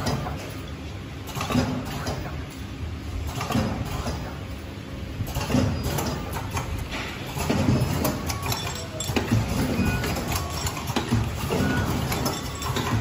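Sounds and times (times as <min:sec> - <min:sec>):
packing machines clattering: 0:00.0 - 0:04.5, 0:05.2 - 0:13.0.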